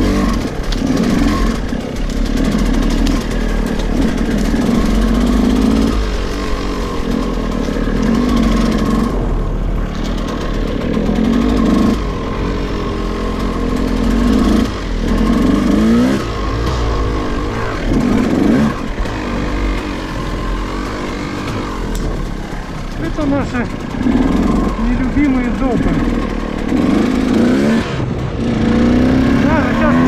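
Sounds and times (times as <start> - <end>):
two-stroke engine revving: 0.0 - 30.0.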